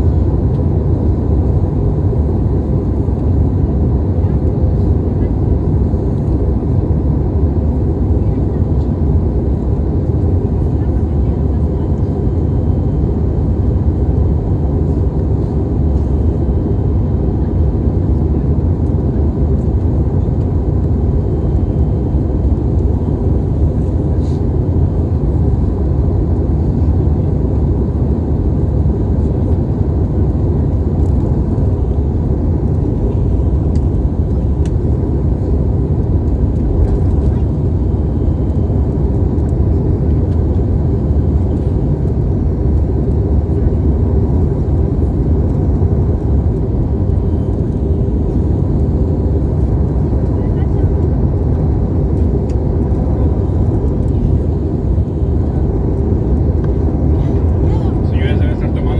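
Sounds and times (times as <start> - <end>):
airliner cabin engine roar: 0.0 - 58.9.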